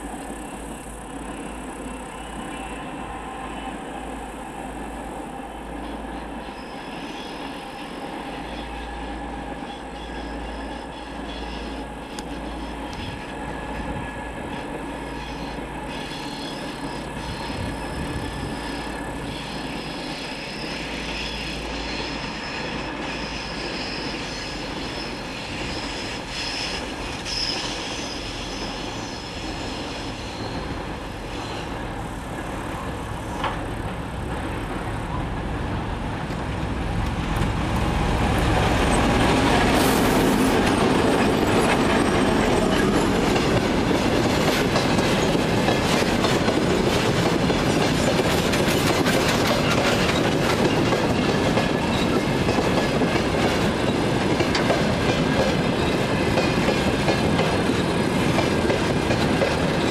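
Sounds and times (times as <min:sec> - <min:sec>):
diesel locomotive engine hum: 0:00.0 - 0:59.9.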